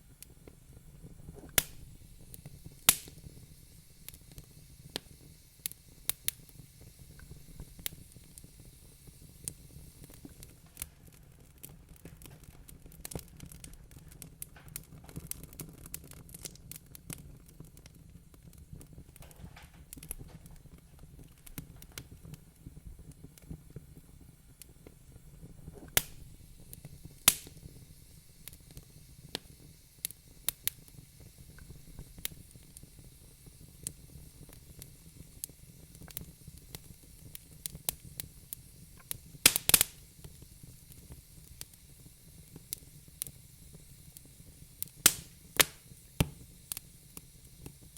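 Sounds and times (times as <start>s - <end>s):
fire low rumble and hiss: 0.0s - 47.9s
wood fire crackling and popping: 0.0s - 47.9s.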